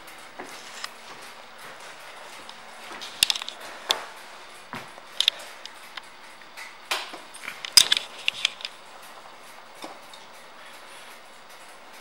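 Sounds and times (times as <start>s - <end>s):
handling clicks taps and rustles: 0.4s - 10.4s.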